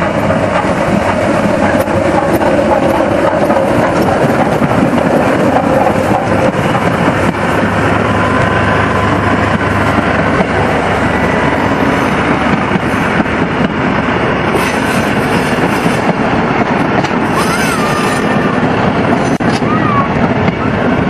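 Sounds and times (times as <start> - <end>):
train running along track: 0.0 - 21.0.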